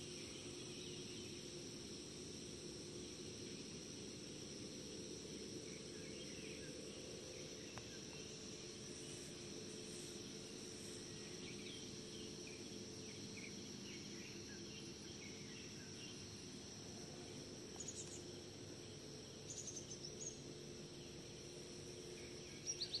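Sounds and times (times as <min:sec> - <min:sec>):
insects buzzing: 0:00.0 - 0:23.0
low steady hum: 0:00.0 - 0:23.0.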